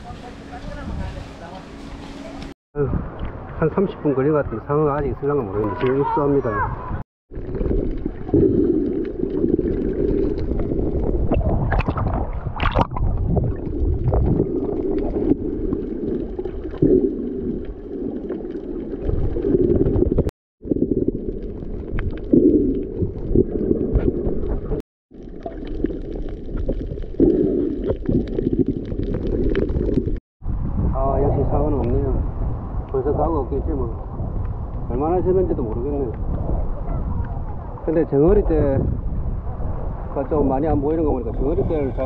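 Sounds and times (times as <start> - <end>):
muffled underwater water rush: 0.0 - 4.0, 6.8 - 42.0.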